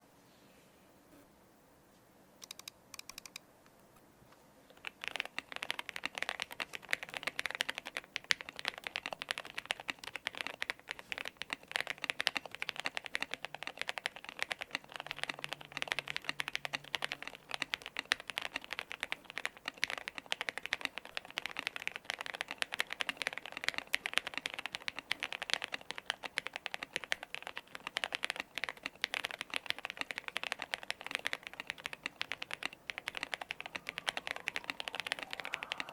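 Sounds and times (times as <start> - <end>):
mechanical keyboard typing: 2.4 - 3.4, 4.7 - 35.9.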